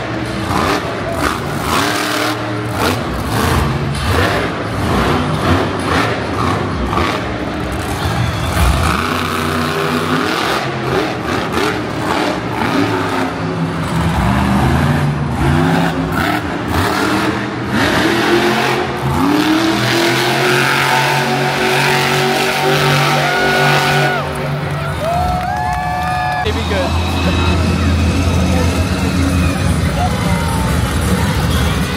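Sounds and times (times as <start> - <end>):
monster truck engine revving: 0.0 - 25.4, 26.4 - 31.9.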